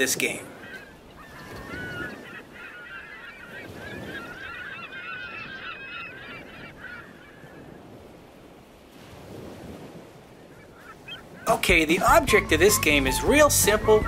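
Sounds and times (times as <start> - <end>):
birds honking: 0.0 - 8.0, 10.5 - 14.0.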